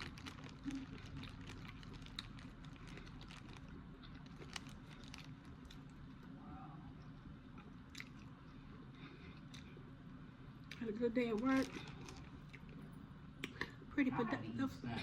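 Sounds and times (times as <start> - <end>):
wet chewing clicks and crackles: 0.0 - 6.3, 7.0 - 9.9, 10.6 - 13.7.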